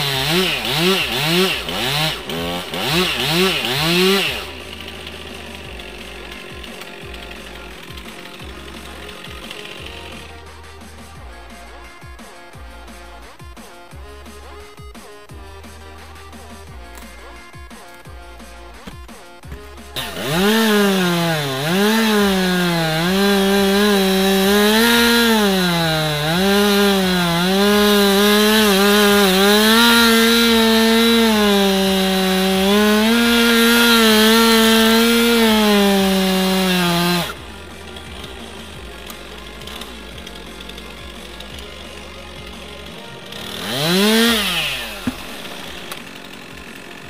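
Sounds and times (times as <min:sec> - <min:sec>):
chainsaw cutting wood: 0:00.0 - 0:47.0.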